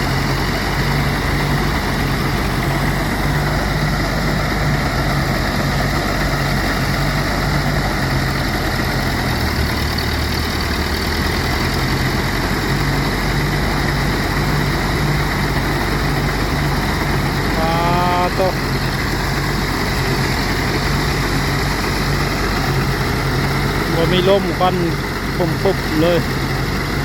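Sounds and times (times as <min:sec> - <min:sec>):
motor humming: 0:00.0 - 0:27.0.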